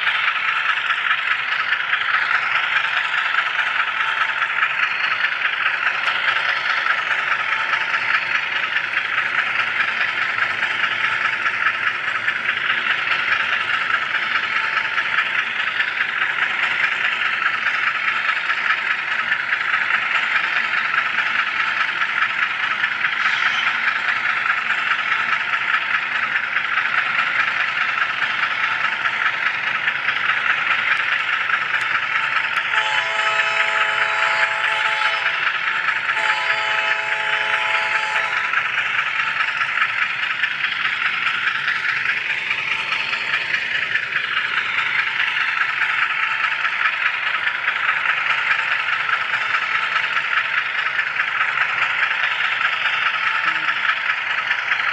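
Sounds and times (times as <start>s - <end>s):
small wheels rattling on rail: 0.0s - 54.9s.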